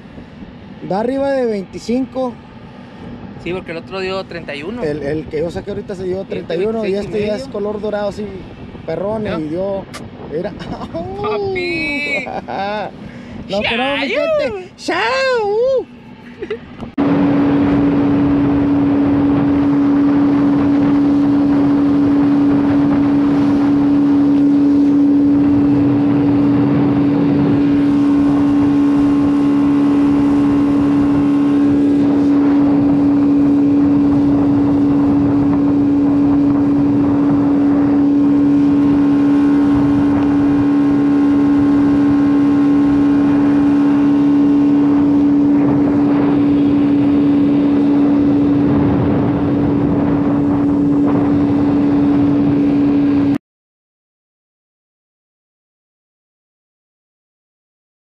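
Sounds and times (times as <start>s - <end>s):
boat engine running: 0.0s - 53.4s
wind and water rushing: 0.0s - 53.4s.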